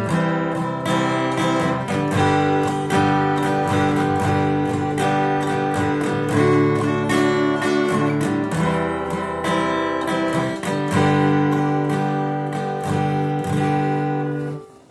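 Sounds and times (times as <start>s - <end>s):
acoustic guitar strumming: 0.0s - 14.9s.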